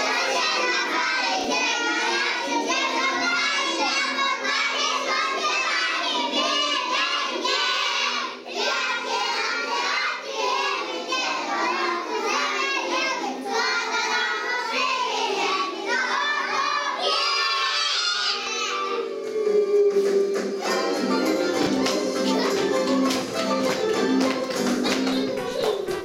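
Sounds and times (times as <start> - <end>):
young children singing: 0.0 - 26.0.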